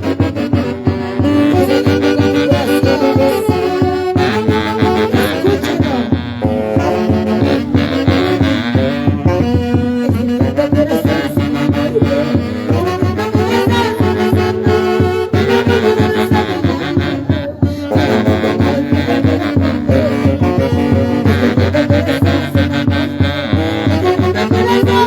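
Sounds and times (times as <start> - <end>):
live brass and saxophone dance music: 0.0 - 25.0.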